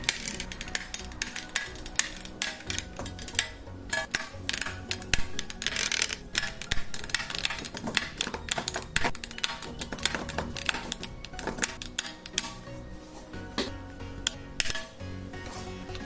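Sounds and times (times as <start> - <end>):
background music: 0.0 - 16.0
hand tools clicking and knocking: 0.0 - 16.0.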